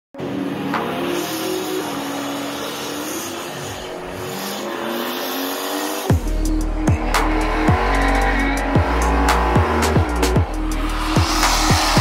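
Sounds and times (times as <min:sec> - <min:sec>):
car engines revving: 0:00.2 - 0:12.0
tires squealing on pavement: 0:00.2 - 0:12.0.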